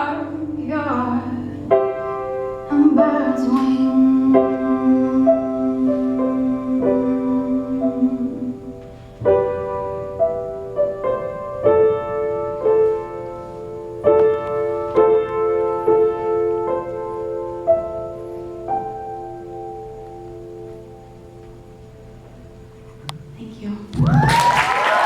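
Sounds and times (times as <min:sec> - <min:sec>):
piano playing slow chords: 0:00.0 - 0:23.8.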